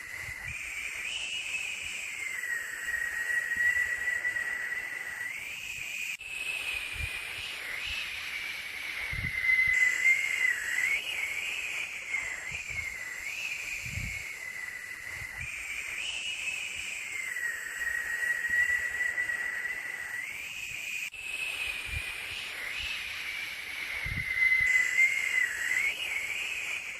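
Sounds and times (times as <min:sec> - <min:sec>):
wavering whistling tone: 0:00.0 - 0:26.9
white noise hiss: 0:00.0 - 0:26.9.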